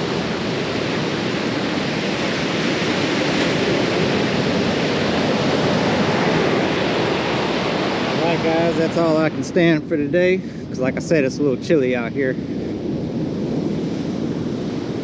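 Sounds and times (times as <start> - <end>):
ocean surf breaking: 0.0 - 15.0
wind: 0.0 - 15.0.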